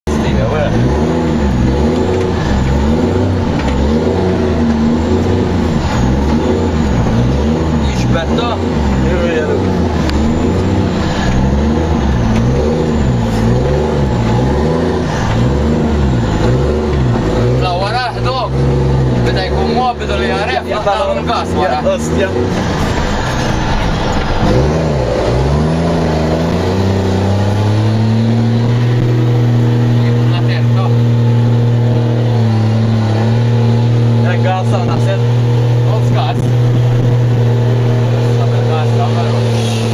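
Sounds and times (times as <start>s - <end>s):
loud diesel truck engine: 0.0s - 39.9s.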